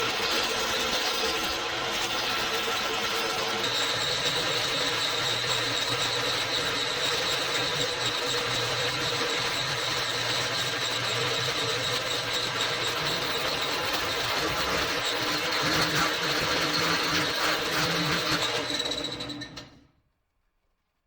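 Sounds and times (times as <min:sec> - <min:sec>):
electric power tool whining: 0:00.0 - 0:19.8.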